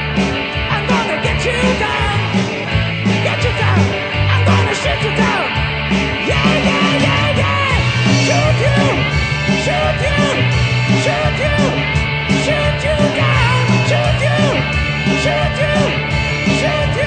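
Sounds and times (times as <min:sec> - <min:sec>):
drums beating: 0:00.0 - 0:17.0
rock band playing live: 0:00.0 - 0:17.0.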